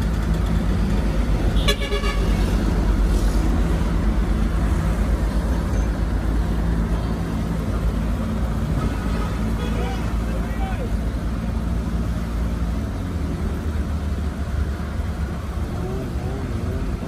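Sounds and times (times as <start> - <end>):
diesel earthmoving machinery running: 0.0 - 17.0.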